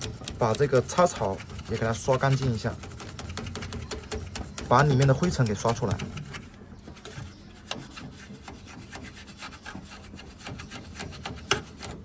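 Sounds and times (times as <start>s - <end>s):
bristle brush scrubbing: 0.0s - 12.0s.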